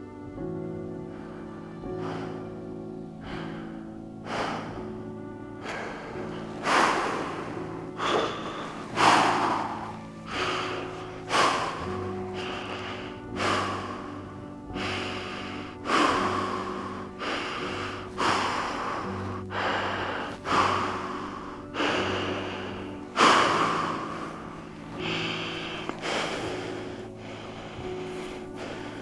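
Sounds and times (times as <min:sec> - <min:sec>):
low music drone: 0:00.0 - 0:29.0
man gasping breaths: 0:00.0 - 0:29.0.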